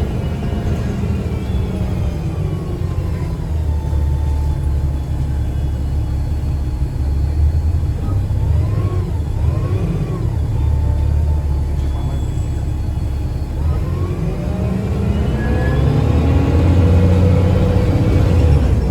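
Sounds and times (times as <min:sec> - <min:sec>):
bus drivetrain drone: 0:00.0 - 0:18.9.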